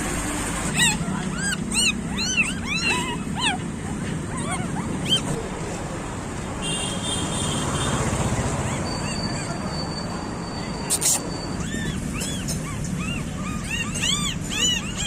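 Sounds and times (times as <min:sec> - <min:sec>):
puppies whimpering and yelping: 0:00.5 - 0:06.2, 0:08.2 - 0:15.0.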